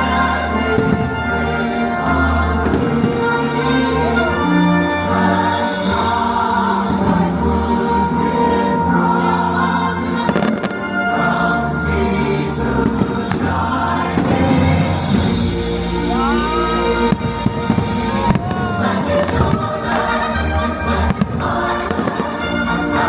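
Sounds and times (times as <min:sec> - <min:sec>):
orchestral music with choir: 0:00.0 - 0:23.0.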